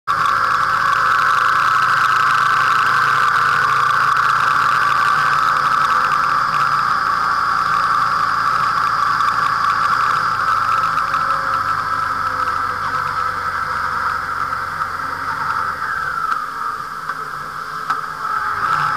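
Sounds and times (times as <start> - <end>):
motorcycle engine drone: 0.0 - 18.9.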